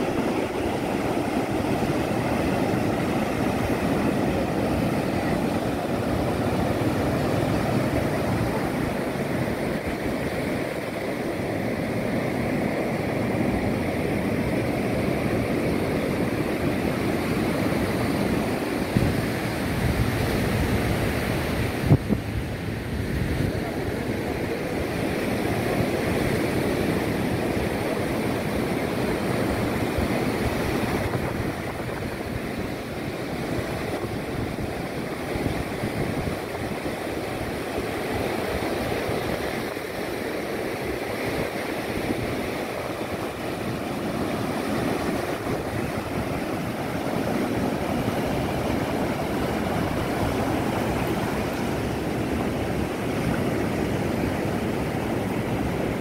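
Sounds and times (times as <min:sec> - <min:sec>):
surf breaking on beach: 0:00.0 - 0:56.0
wind buffeting microphone: 0:00.0 - 0:56.0.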